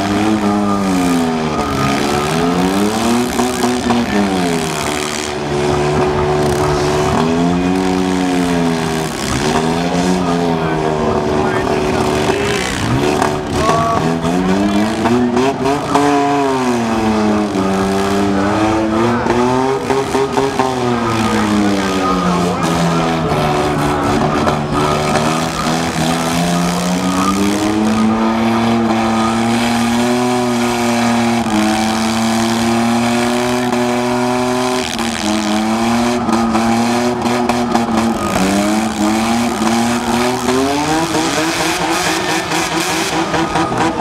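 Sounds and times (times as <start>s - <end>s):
car engine revving hard: 0.0s - 44.0s
tires spinning and squealing: 0.0s - 44.0s.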